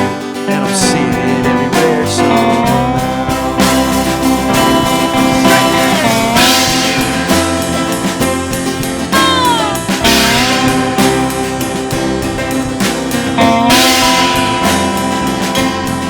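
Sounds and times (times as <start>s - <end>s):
drums: 0.0s - 16.0s
lead guitar with bent notes: 0.0s - 16.0s
rhythm guitar: 0.0s - 16.0s.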